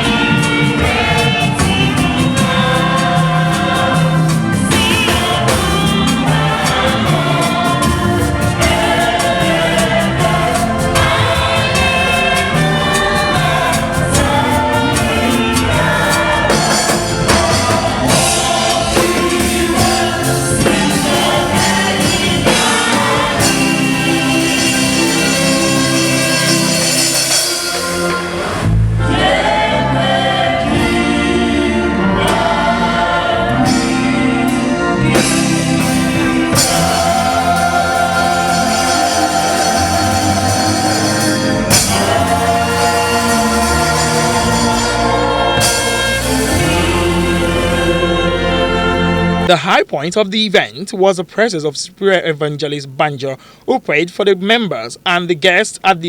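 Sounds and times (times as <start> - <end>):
band accompaniment with steady beat: 0.0 - 56.0
church choir singing gospel: 0.0 - 56.0.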